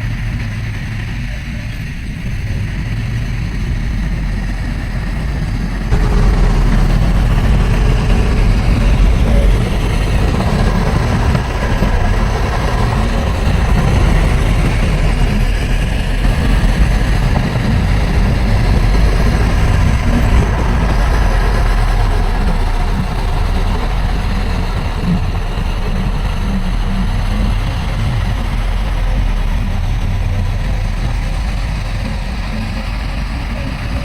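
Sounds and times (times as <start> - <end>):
heavy diesel machinery engine rumble: 0.0 - 34.0.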